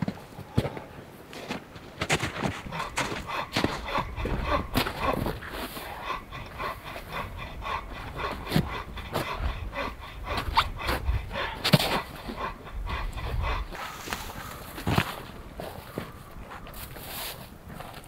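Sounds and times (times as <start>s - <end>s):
spruce boughs rustling: 0.0s - 18.0s
soft rhythmic pulsing: 2.4s - 18.0s.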